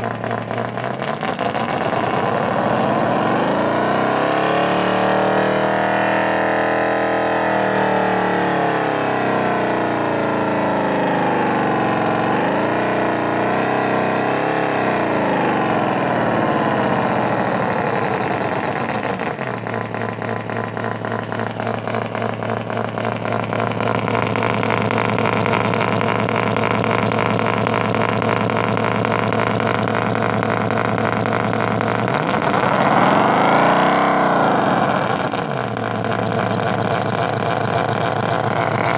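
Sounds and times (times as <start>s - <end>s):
synthesized engine sound revving: 0.0s - 38.9s.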